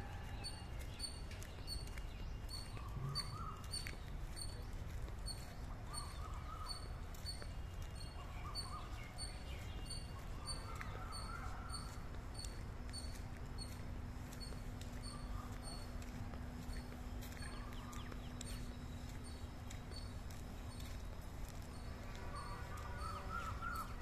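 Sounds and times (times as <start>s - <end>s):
faint bird calls: 2.4s - 24.0s.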